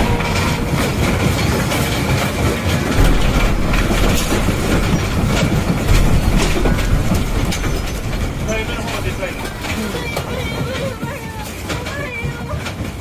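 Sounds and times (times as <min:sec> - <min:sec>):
deep earthquake rumble: 0:00.0 - 0:11.2
furniture and objects rattling: 0:00.0 - 0:11.9.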